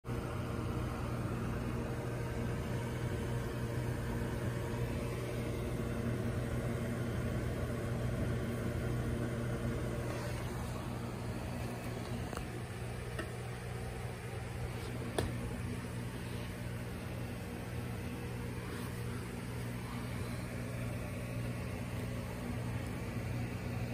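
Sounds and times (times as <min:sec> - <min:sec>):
air pump humming: 0:00.1 - 0:23.9.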